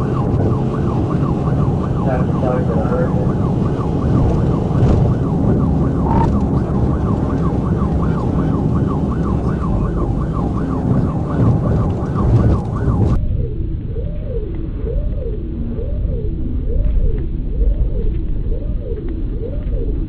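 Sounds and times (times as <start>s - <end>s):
engine and road noise: 0.0s - 20.0s
police siren yelping: 0.0s - 20.0s
wailing siren: 0.0s - 20.0s.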